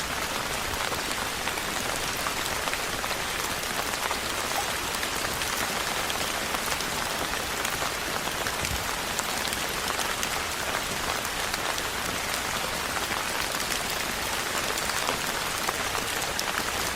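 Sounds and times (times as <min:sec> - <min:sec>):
rain on a rooftop: 0:00.0 - 0:16.9.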